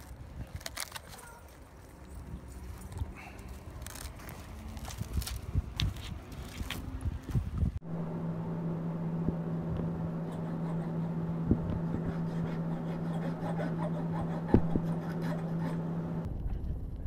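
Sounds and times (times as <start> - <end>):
steady low hum: 1.7 - 16.6.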